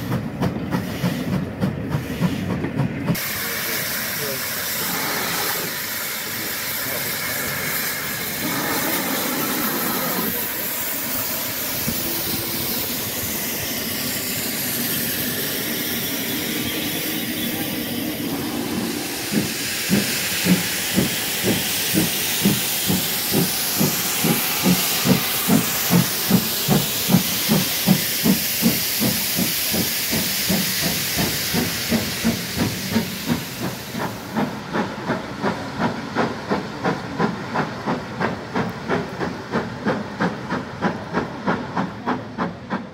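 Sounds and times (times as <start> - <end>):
steam locomotive exhaust chuffs: 0.0 - 42.9
steam locomotive hissing: 0.0 - 42.9.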